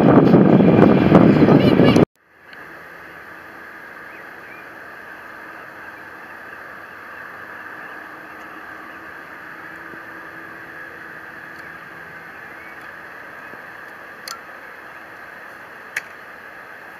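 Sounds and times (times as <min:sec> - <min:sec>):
distant jet engines taxiing: 0:00.0 - 0:16.9.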